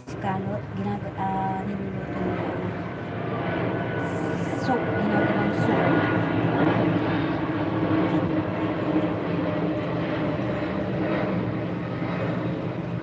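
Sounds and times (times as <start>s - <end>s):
machine hum with low tones: 0.0s - 13.0s.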